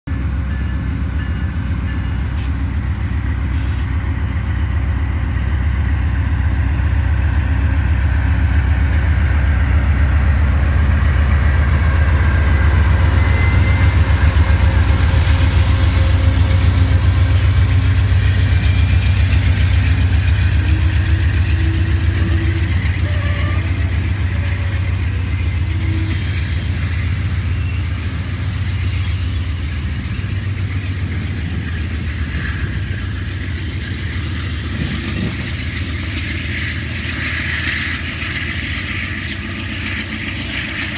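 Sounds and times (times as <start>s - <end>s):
diesel locomotive engine rumble: 0.0s - 40.9s.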